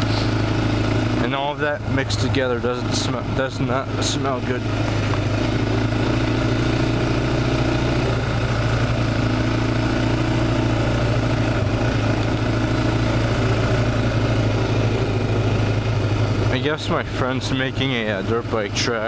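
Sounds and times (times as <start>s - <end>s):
atv engine running steadily: 0.0s - 19.0s.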